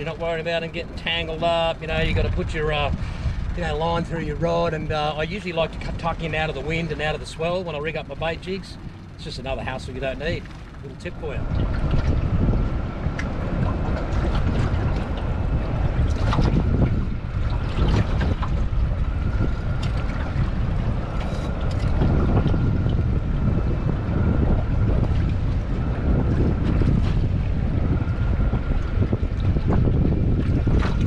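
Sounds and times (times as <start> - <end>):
water slapping against boat: 0.0 - 31.0
wind buffeting microphone: 0.0 - 31.0.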